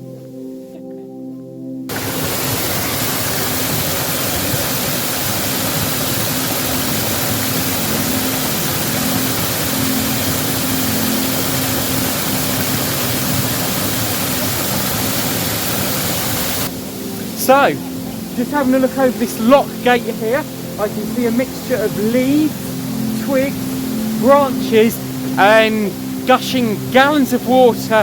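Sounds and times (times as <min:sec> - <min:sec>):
water gushing over lock gate: 0:01.9 - 0:28.0.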